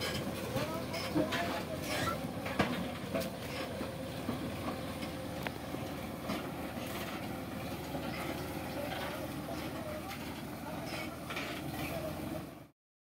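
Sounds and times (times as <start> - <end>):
tractor diesel engine running: 0.0 - 12.7.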